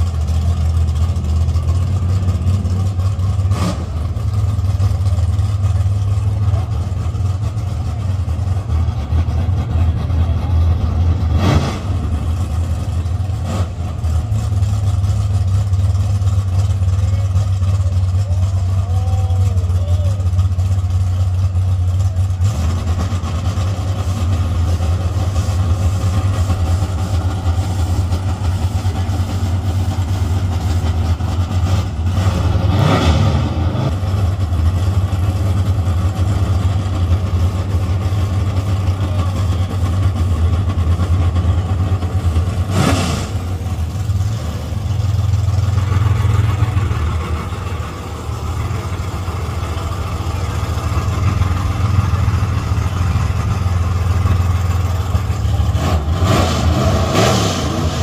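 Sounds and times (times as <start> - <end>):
race car engine rumbling: 0.0 - 58.0.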